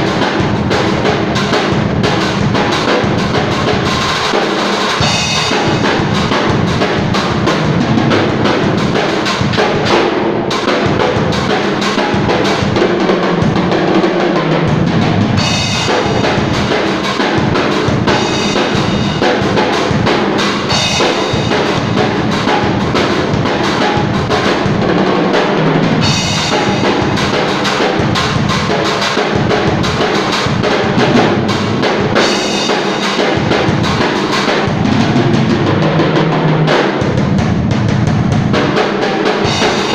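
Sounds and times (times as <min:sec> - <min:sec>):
cymbal crashes: 0:00.0 - 0:39.9
drum kit groove: 0:00.0 - 0:39.9.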